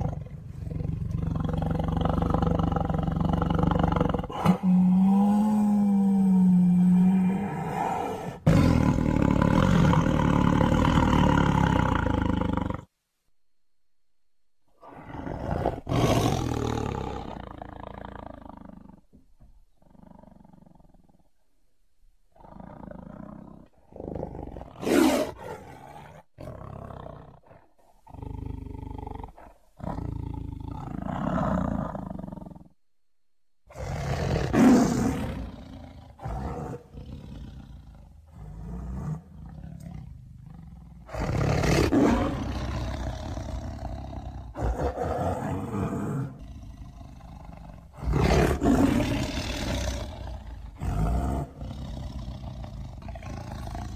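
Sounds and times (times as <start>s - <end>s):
tiger roaring: 0.0s - 12.9s, 14.8s - 19.1s, 22.3s - 32.7s, 33.7s - 53.9s.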